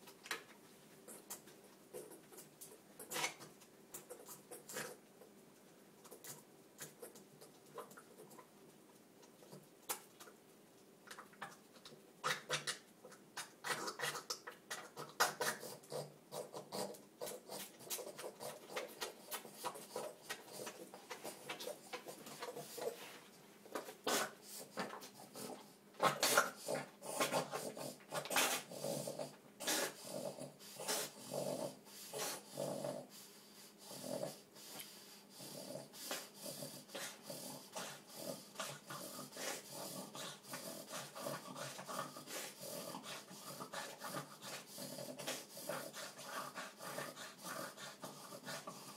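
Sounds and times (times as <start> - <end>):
dog breathing and throat noises: 0.0 - 48.9.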